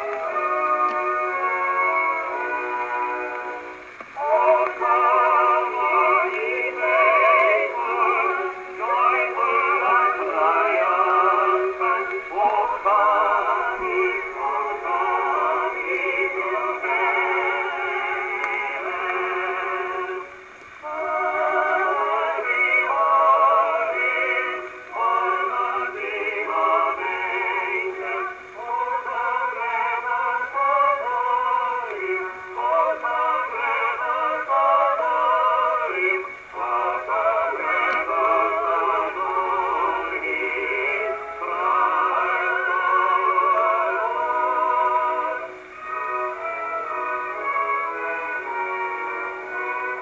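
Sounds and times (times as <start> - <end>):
old phonograph record singing: 0.0 - 50.0.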